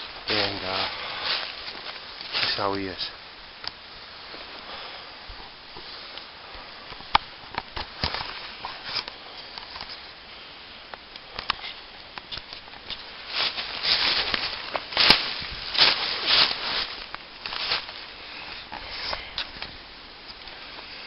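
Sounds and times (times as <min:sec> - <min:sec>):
dry leaves and twigs crackling: 0:00.0 - 0:21.0.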